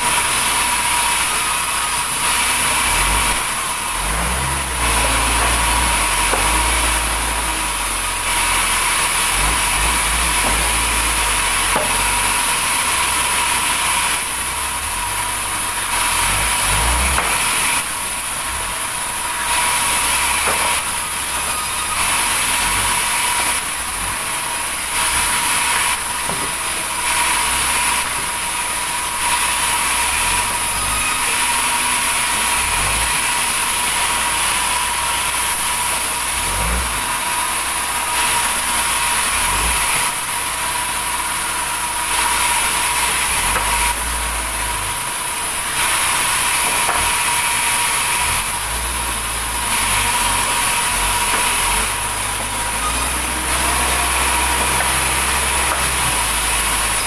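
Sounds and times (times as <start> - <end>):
band saw whining: 0.0 - 57.0
saw blade cutting wood: 0.0 - 57.0.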